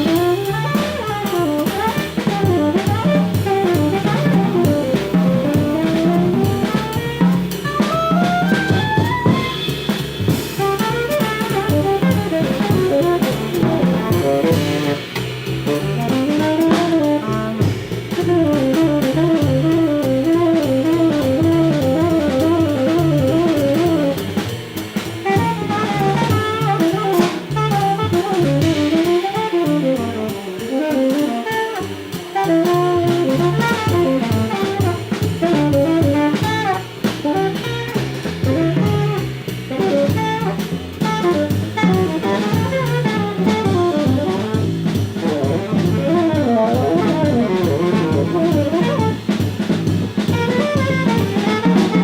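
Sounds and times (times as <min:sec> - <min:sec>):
cymbal and drum time: 0:00.0 - 0:52.0
double bass: 0:00.0 - 0:52.0
tenor saxophone: 0:00.0 - 0:52.0.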